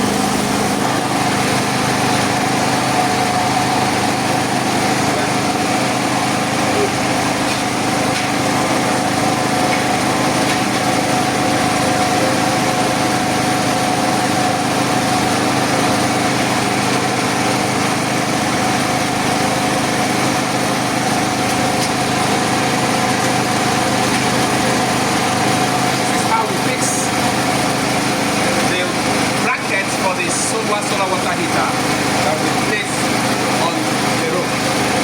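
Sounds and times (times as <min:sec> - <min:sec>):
small engine running steadily: 0:00.0 - 0:35.0.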